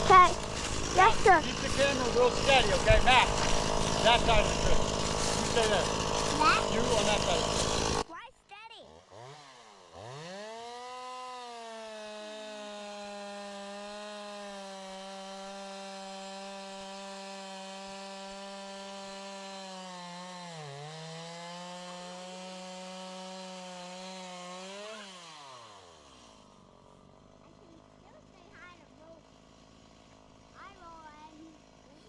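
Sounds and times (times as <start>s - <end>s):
chainsaw at full throttle: 0.0s - 32.0s.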